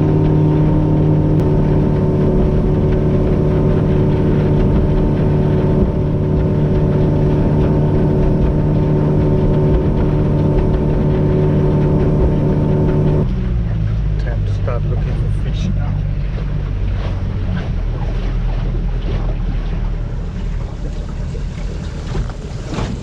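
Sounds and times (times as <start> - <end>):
boat motor humming: 0.0 - 23.0
water rushing: 0.0 - 23.0.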